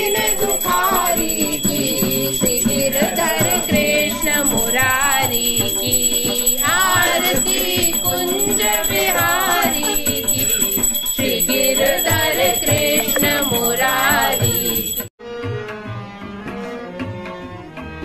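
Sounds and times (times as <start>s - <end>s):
person singing devotional song: 0.0s - 15.1s
tabla: 0.0s - 18.0s.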